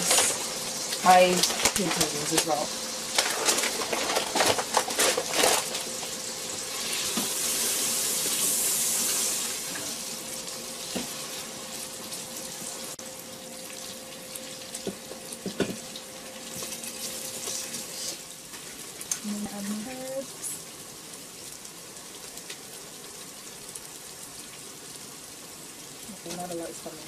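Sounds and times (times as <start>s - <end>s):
onions and tomatoes sizzling: 0.0s - 27.0s.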